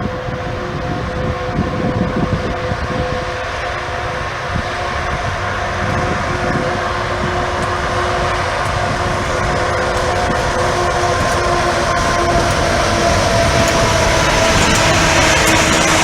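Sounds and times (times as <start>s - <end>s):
electric locomotive whine: 0.0s - 16.0s
low train rumble: 0.0s - 16.0s.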